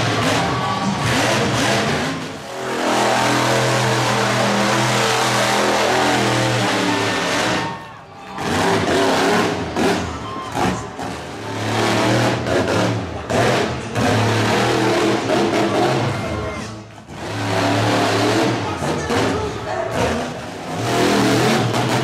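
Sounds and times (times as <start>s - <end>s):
monster truck engine revving: 0.0s - 22.0s
second truck engine revving: 0.0s - 22.0s.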